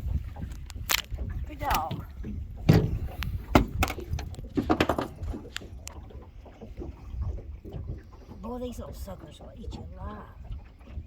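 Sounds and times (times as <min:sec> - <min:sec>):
knocks and thumps on a boat: 0:00.0 - 0:11.0.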